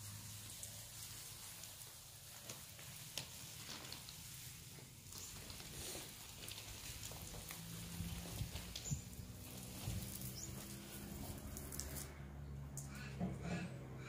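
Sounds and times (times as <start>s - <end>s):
garden hose spraying water: 0.0s - 13.1s.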